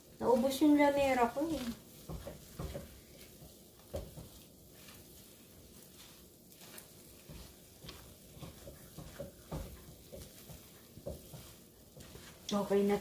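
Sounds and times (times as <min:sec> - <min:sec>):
soft squishy stirring of paste: 0:00.0 - 0:13.0.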